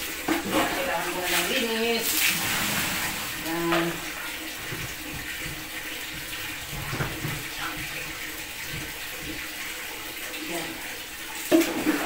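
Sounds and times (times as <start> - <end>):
water running from a tap: 0.0 - 12.0.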